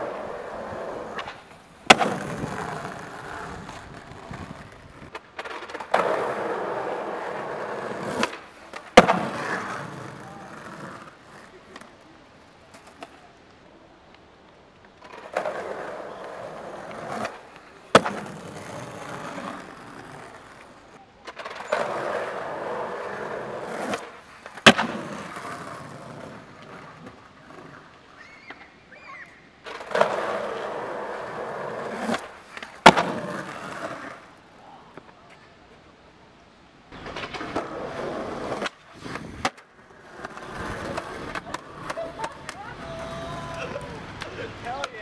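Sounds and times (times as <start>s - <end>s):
skateboard clacking on ground: 0.0s - 28.6s, 29.6s - 35.6s, 36.9s - 45.0s
skateboard wheels rolling on concrete: 0.0s - 45.0s.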